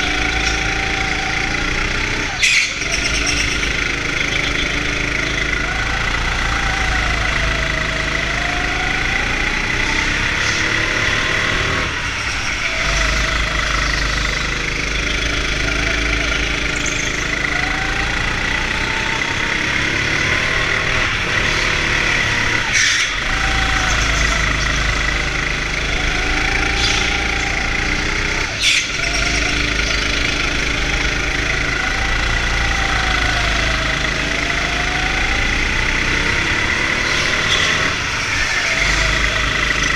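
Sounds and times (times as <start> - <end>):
go-kart motor: 0.0 - 39.9.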